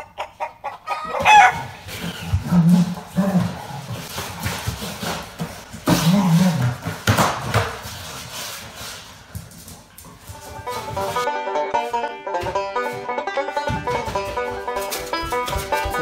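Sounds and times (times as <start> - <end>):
scuffling on tiled floor: 1.2 - 16.0.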